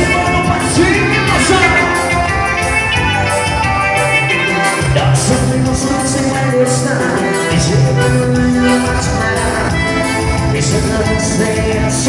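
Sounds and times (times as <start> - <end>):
latin dance band music: 0.0 - 12.0.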